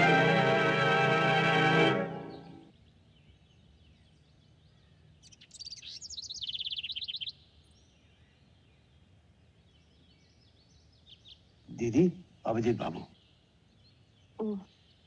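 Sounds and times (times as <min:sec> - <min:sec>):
small bird singing: 0:02.2 - 0:15.0.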